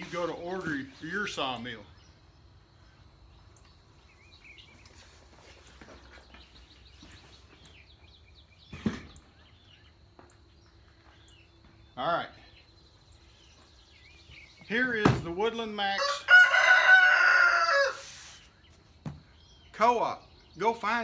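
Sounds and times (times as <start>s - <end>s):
faint birdsong: 0.0s - 21.0s
outdoor background noise: 0.0s - 21.0s.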